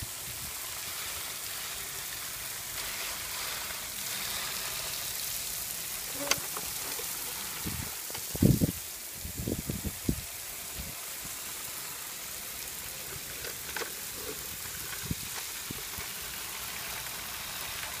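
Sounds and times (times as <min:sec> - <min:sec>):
rain on wet paving: 0:00.0 - 0:18.0.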